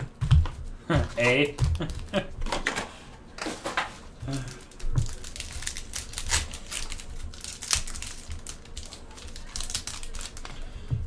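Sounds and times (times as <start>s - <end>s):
wrapper crinkling: 1.2s - 10.9s.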